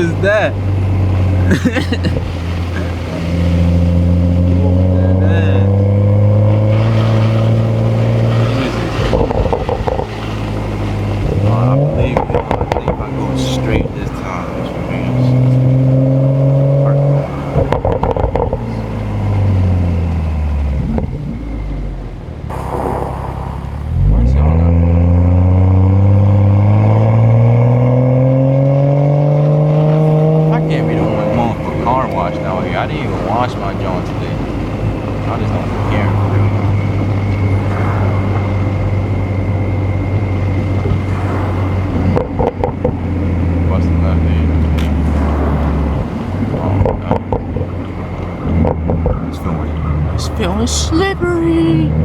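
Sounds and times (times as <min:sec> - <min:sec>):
exhaust pops and crackles: 0:00.0 - 0:21.4, 0:22.5 - 0:28.2, 0:28.8 - 0:50.2
car engine slowing: 0:00.0 - 0:52.0
tyre and road noise: 0:00.0 - 0:52.0.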